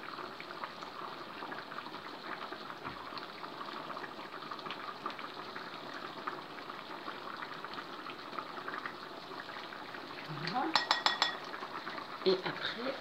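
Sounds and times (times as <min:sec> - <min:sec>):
sauce bubbling in a pan: 0:00.0 - 0:13.0.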